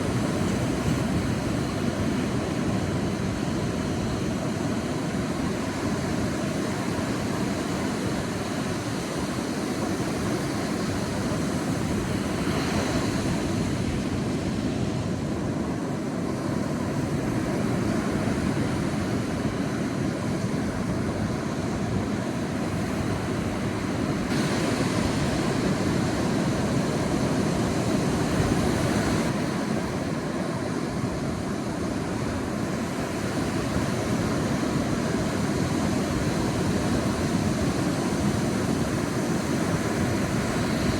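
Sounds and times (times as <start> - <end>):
waves washing onto beach: 0.0 - 40.9.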